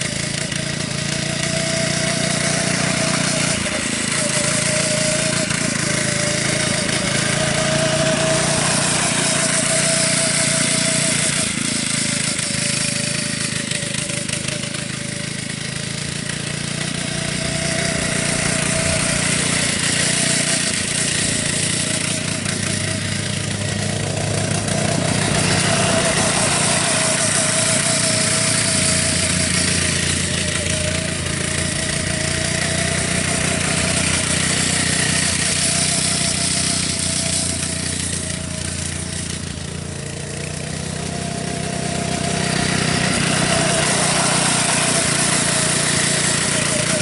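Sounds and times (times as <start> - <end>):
go-kart engine running: 0.0 - 47.0
wavering whine: 0.0 - 47.0.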